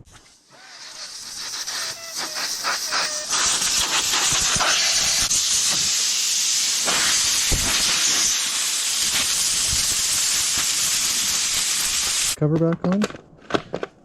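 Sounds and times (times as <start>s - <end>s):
compressed air hissing: 0.2s - 12.4s.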